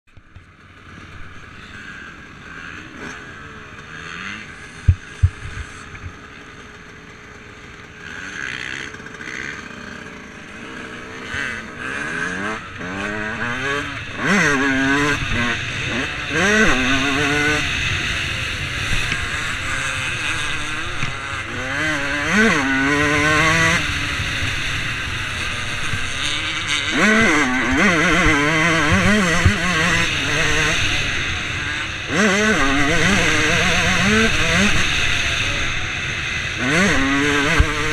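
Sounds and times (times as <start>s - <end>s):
dirt bike engine revving: 0.3s - 37.9s.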